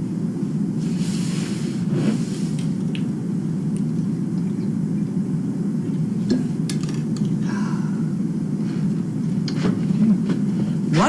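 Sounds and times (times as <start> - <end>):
low rumble of machinery: 0.0 - 11.0.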